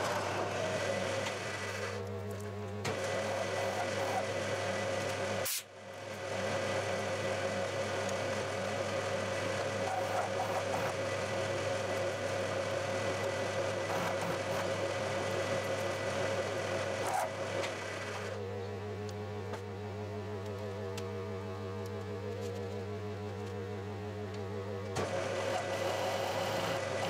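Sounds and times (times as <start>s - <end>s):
milling machine spindle humming: 0.0s - 27.0s.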